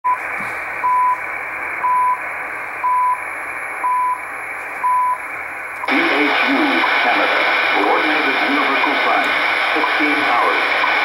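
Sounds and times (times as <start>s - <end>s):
shortwave static hiss: 0.1s - 11.0s.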